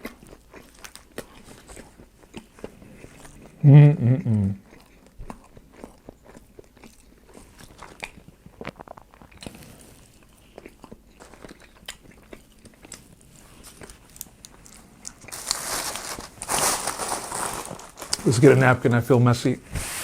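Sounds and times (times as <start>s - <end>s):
person chewing food: 0.0s - 18.3s.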